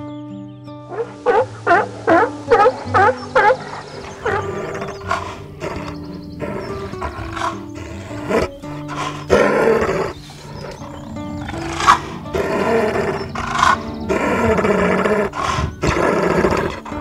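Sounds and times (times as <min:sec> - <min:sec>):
background music with low notes: 0:00.0 - 0:17.0
hyena growling and roaring: 0:00.9 - 0:17.0.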